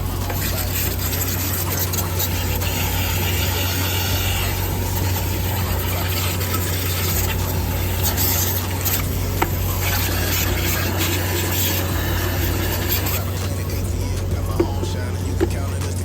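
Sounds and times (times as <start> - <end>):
scrubbing and rubbing: 0.0 - 16.0
steady low hum: 0.0 - 16.0.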